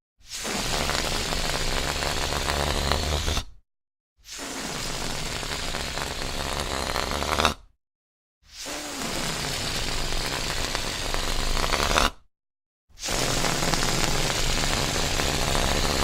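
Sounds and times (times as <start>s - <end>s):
balloon deflating with buzz: 0.2s - 3.6s, 4.2s - 7.7s, 8.5s - 12.3s, 12.9s - 16.0s.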